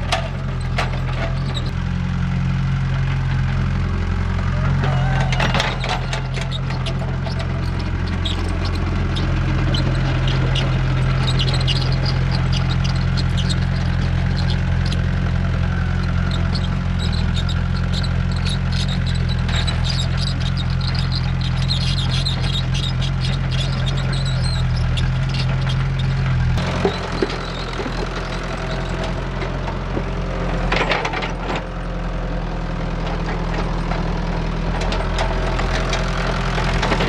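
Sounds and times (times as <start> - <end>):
excavator diesel engine: 0.0 - 37.0.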